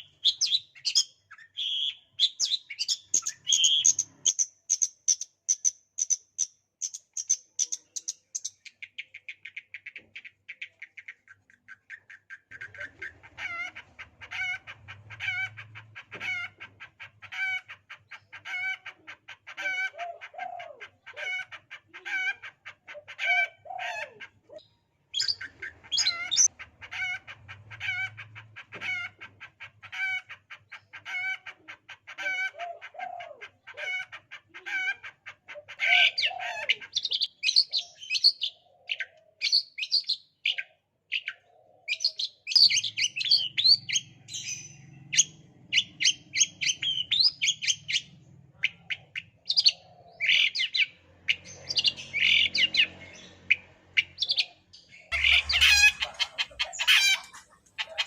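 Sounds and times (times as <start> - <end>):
bird high chirps and squeaky calls: 0.0 - 33.0, 33.6 - 58.0
shrike mimicking hen clucking: 10.6 - 58.0.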